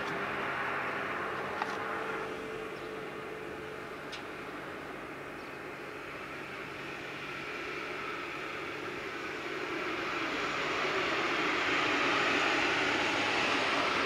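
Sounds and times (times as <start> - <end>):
electric train rushing noise: 0.0 - 14.0.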